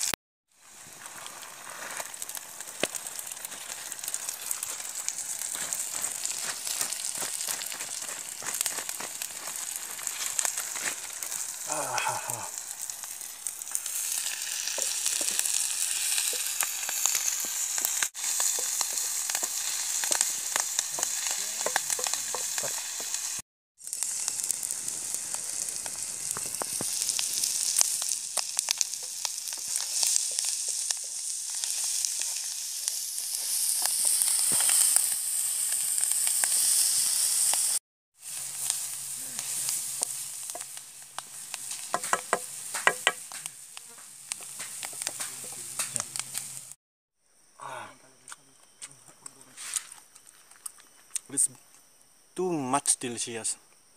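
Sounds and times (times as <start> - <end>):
eggs sizzling in a wok: 0.0 - 46.8.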